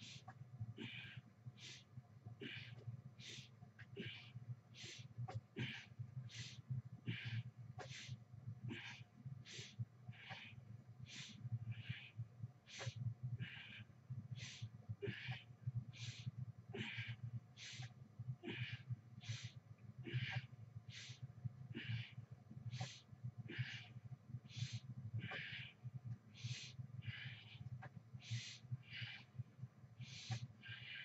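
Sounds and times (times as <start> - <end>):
person breathing hard: 0.0 - 31.0
steady low hum: 0.0 - 31.0.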